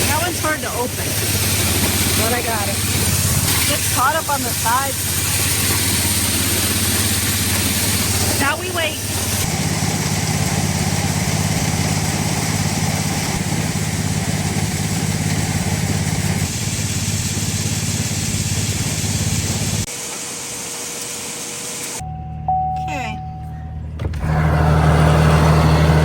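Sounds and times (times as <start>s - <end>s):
grain auger motor droning: 0.0s - 22.6s, 23.9s - 26.0s.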